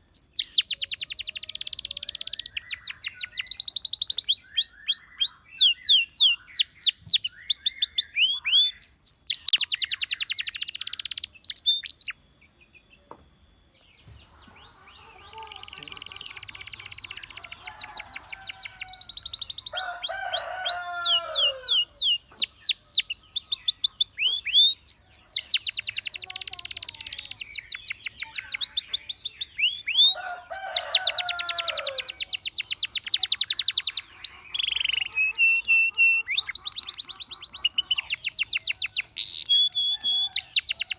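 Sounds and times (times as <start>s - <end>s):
canary song trills: 0.0s - 40.9s.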